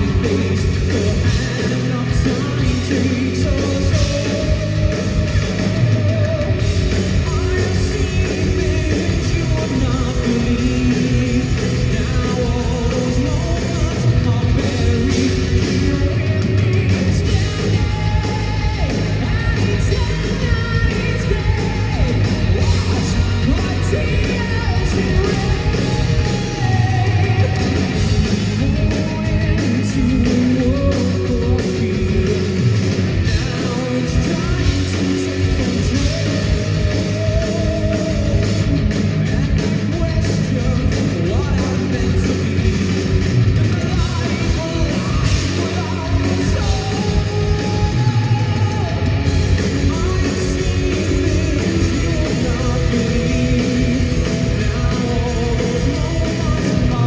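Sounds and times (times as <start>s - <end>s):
heavy metal band playing: 0.0s - 57.0s
person singing: 0.0s - 57.0s.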